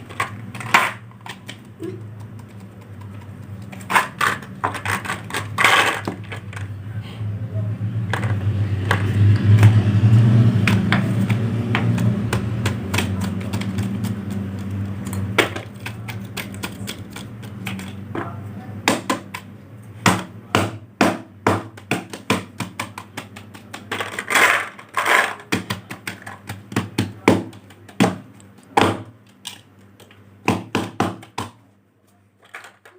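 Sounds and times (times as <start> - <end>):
hard objects clicking: 0.0 - 6.7, 8.0 - 9.8, 10.5 - 20.3, 21.5 - 31.6.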